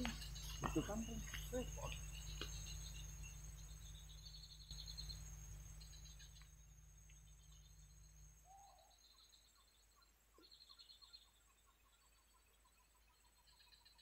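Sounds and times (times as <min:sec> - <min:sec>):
low hum: 0:00.0 - 0:11.5
cricket trill: 0:00.0 - 0:14.0
high insect chirping: 0:00.0 - 0:14.0.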